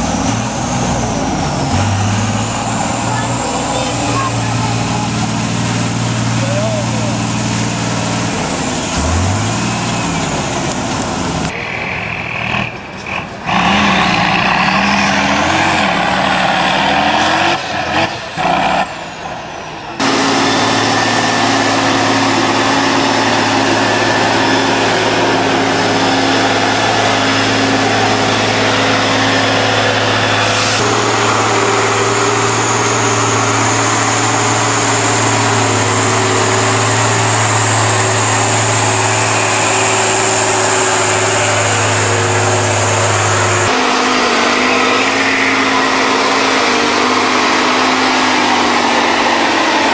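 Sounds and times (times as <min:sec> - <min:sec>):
truck engines revving off-road: 0:00.0 - 0:49.9.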